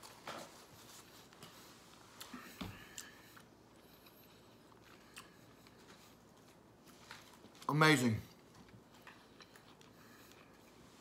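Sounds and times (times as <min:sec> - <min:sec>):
faint eating sounds: 0:00.0 - 0:11.0.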